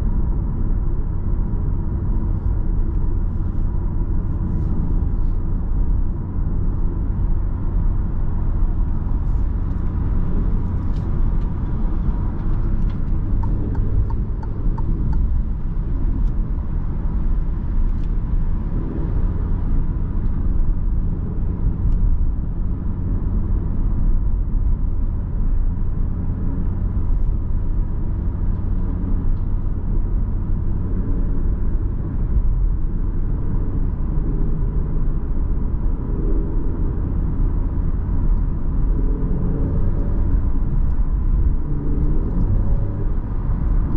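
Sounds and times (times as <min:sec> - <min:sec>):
car cabin engine and tyre rumble: 0:00.0 - 0:43.9.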